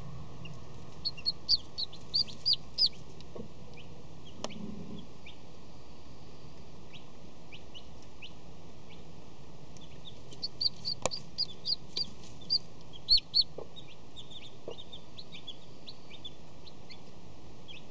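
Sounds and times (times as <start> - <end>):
chick peeping: 0.0 - 5.5, 6.9 - 9.1, 9.8 - 17.9.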